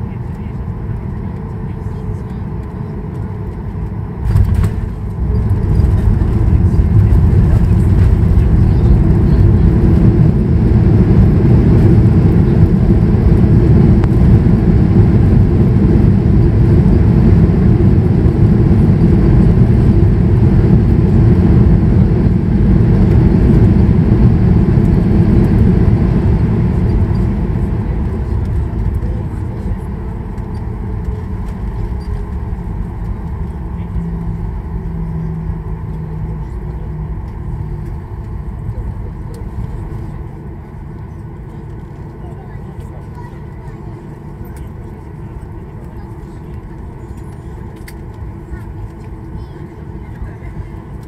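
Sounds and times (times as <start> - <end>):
runway rumble: 0.0 - 51.0
jet engines reverse thrust rushing: 0.6 - 51.0.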